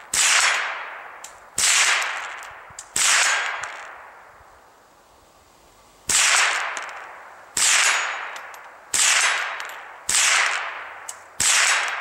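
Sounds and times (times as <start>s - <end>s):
rifle shots: 0.1s - 4.0s, 6.1s - 12.0s.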